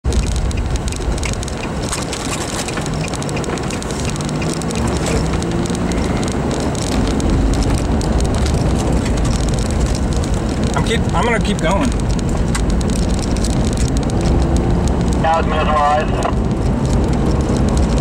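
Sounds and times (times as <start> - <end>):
tyre and engine rumble: 0.0 - 18.0
wind rushing past car: 0.0 - 18.0.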